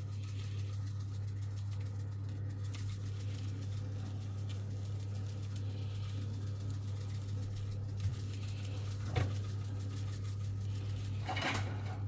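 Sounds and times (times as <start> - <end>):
herbs pattering onto pizza: 0.0 - 11.6
low electrical hum: 0.0 - 12.0.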